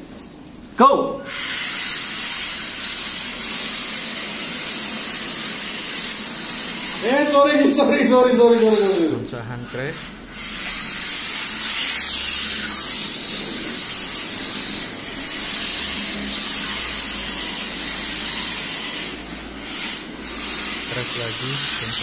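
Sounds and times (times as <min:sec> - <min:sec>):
small rc cars motors hissing: 0:01.3 - 0:22.0.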